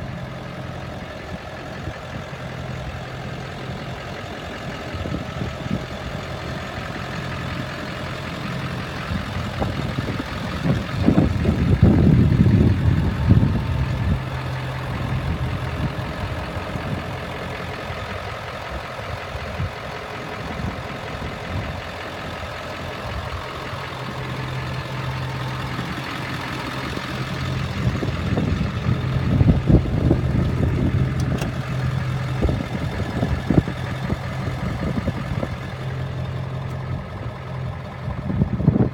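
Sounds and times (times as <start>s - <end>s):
pickup truck engine running: 0.0s - 38.9s.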